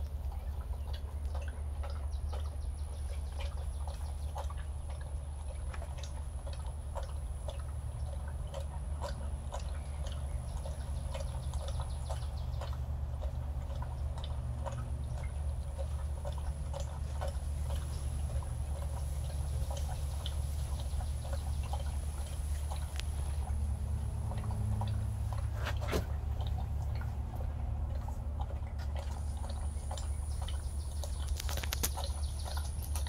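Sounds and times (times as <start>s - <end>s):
constant low hum: 0.0s - 33.0s
dog lapping from metal bowl: 0.0s - 33.0s.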